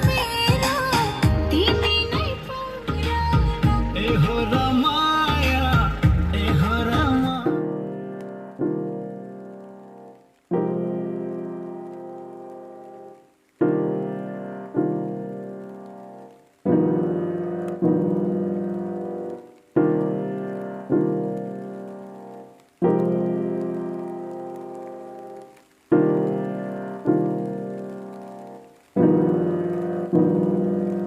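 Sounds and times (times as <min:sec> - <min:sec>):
slow piano chords: 0:00.0 - 0:31.0.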